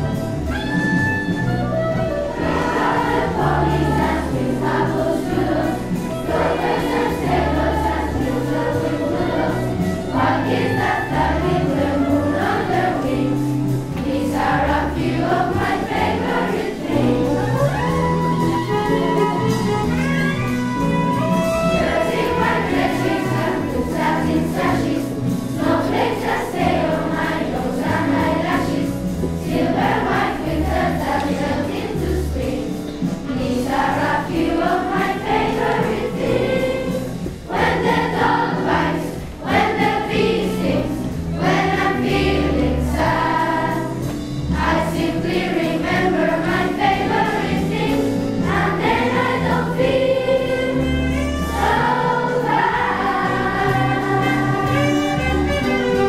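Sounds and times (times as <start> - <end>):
children's choir singing jazz: 0.0 - 56.0.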